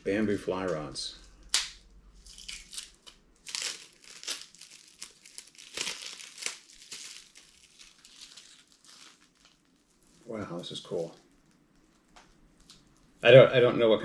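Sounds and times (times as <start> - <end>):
plastic wrap crinkling: 1.4 - 13.2.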